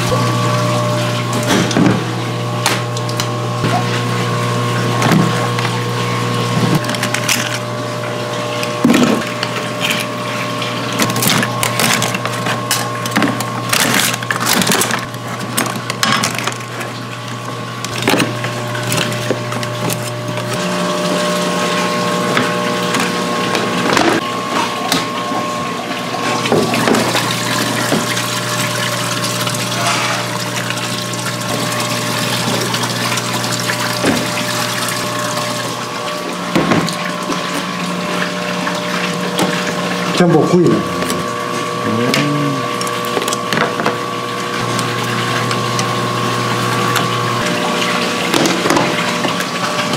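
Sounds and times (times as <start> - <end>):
steady machine hum: 0.0 - 49.9.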